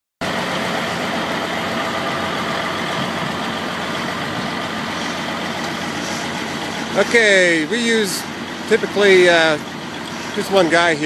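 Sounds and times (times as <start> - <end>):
wood grinder running: 0.2 - 11.0.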